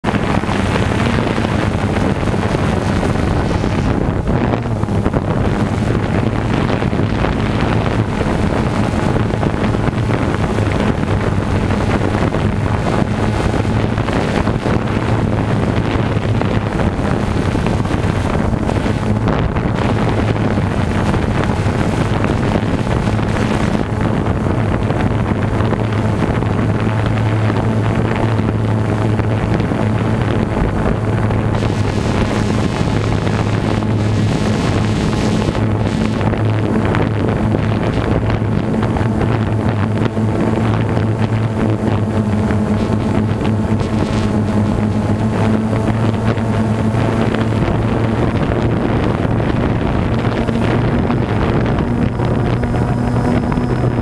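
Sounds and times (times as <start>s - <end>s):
drone propellers whirring: 0.0s - 54.0s
wind on microphone: 0.0s - 54.0s.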